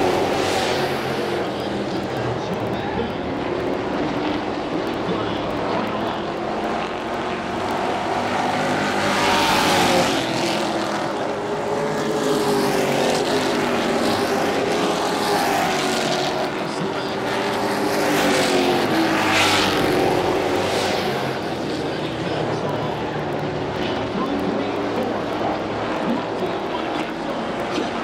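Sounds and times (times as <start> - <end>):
race truck engines passing: 0.0 - 28.0.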